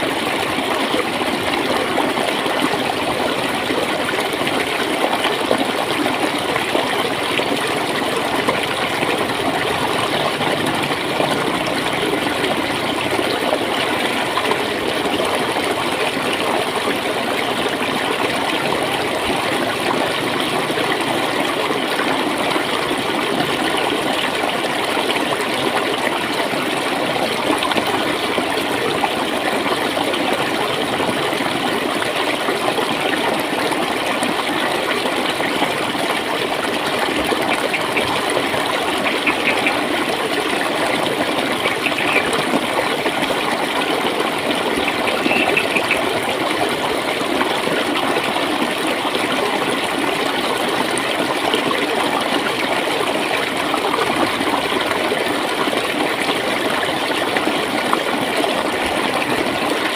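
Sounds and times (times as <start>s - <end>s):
stream flowing and gurgling: 0.0s - 59.9s.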